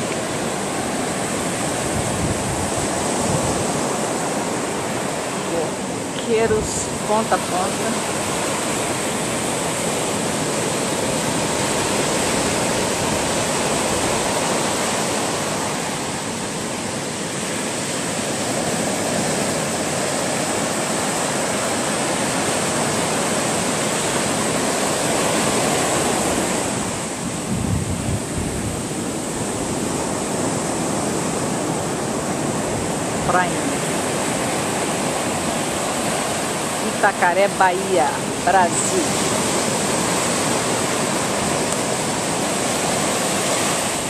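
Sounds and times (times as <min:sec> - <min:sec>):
ocean surf breaking on beach: 0:00.0 - 0:44.0.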